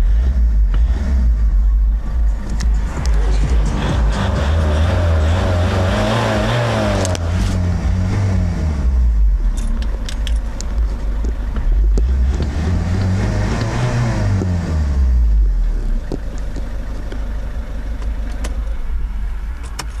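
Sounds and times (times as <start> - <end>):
diesel engine revving and idling: 0.0 - 20.0.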